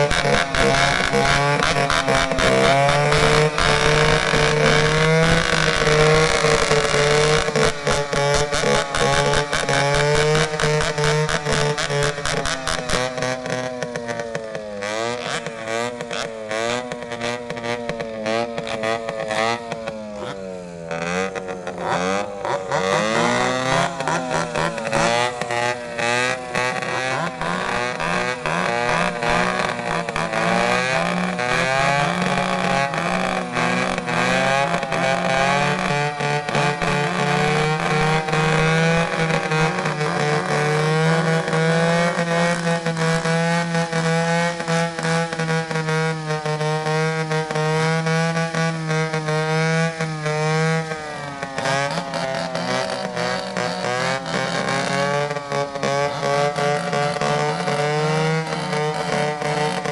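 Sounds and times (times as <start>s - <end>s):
chainsaw engine running high revs: 0.0s - 59.9s.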